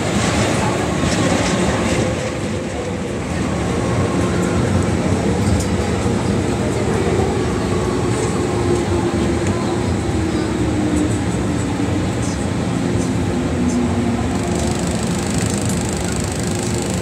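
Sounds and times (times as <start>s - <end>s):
train wheels on track: 0.0s - 17.0s.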